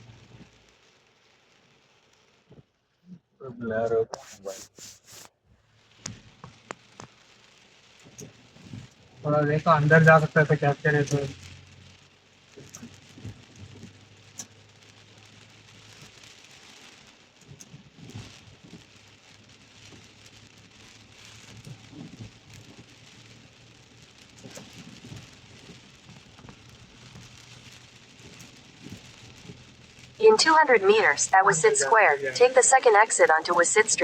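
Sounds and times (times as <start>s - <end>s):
heavy rain on a car: 0.0s - 34.0s.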